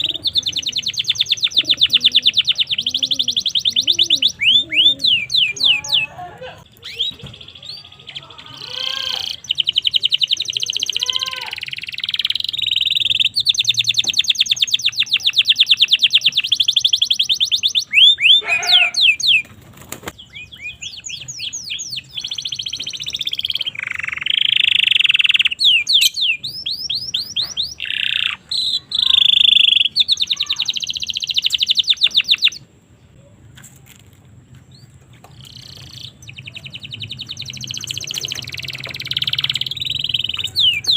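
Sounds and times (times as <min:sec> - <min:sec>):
canary singing trills: 0:00.0 - 0:33.2, 0:34.7 - 0:40.9.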